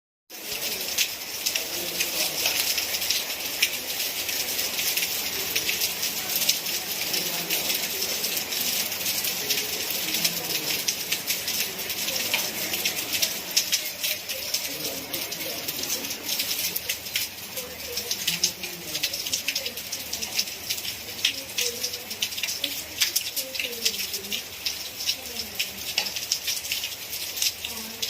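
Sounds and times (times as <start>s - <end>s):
raindrops ticking on a surface: 0.3s - 28.0s
steady rain falling: 0.3s - 28.0s.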